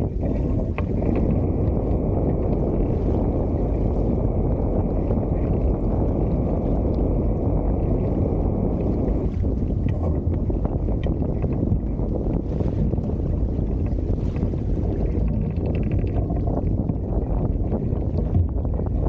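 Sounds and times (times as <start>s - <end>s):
water rushing along hulls: 0.0s - 19.0s
wind on microphone: 0.0s - 19.0s.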